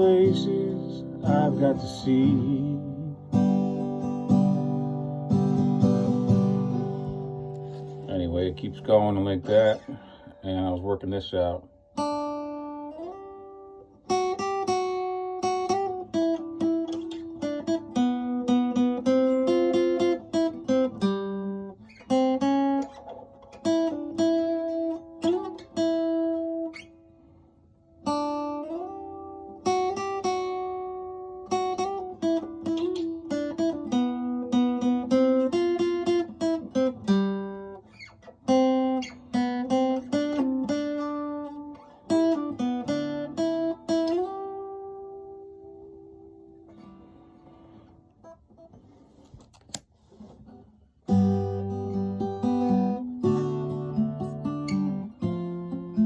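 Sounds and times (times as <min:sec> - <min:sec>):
acoustic guitar picking: 0:00.0 - 0:56.0.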